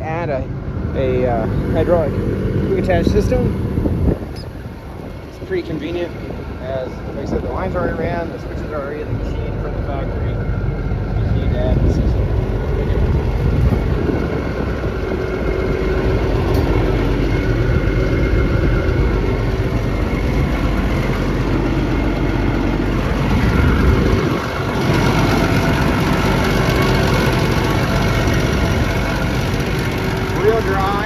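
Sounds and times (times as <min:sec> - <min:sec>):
excavator diesel engine idling: 0:00.0 - 0:31.0
steady tones: 0:00.0 - 0:31.0.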